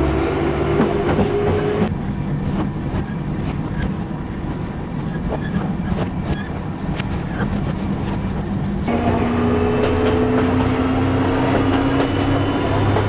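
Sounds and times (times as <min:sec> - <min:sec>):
diesel railcar engine drone: 0:00.0 - 0:13.0.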